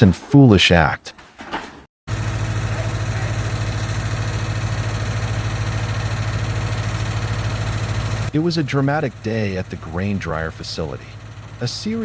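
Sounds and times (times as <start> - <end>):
low mechanical drone: 2.1 - 12.0.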